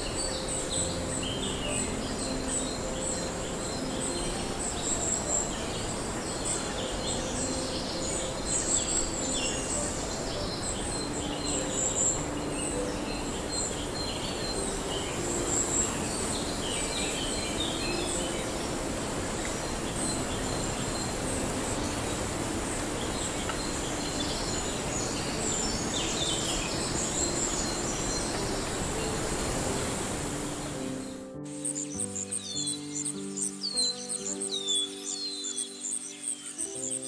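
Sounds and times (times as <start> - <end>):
background hiss: 0.0 - 37.0
small birds chirping: 0.0 - 37.0.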